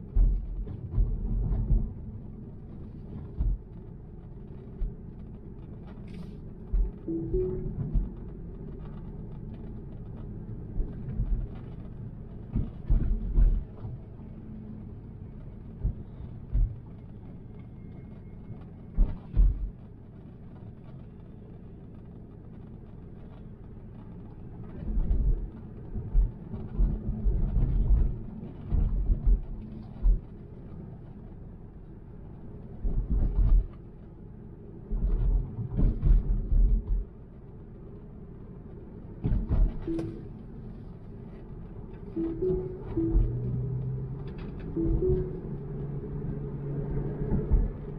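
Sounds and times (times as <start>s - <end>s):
car road and tyre rumble: 0.0s - 47.9s.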